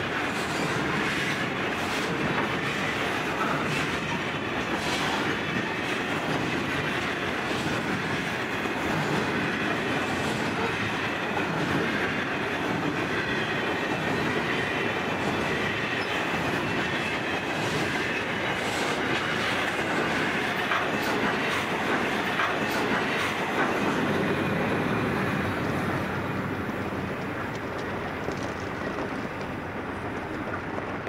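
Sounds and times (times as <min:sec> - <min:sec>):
steel wheels rumbling on rails: 0:00.0 - 0:31.0.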